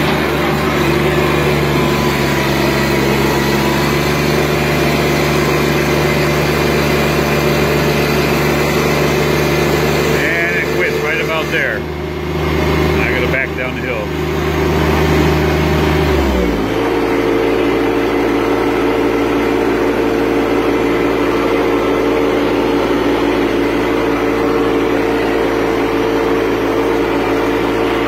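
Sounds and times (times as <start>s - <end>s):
tractor diesel engine revving high: 0.0s - 28.0s.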